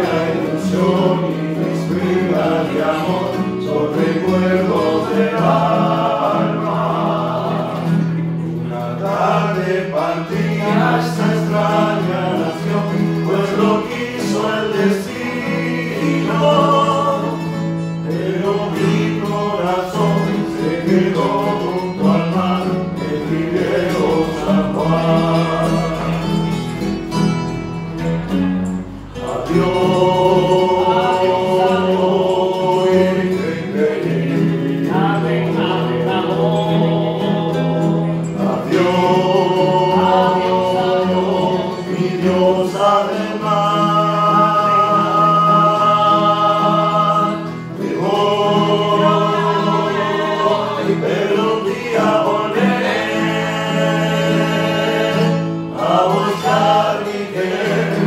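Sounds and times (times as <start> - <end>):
acoustic guitars strumming: 0.0 - 58.0
men singing in harmony: 0.0 - 58.0.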